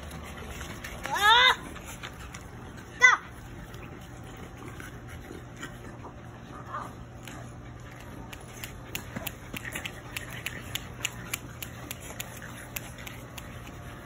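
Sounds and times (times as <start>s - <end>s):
puppies scuffling on dirt: 0.0s - 14.0s.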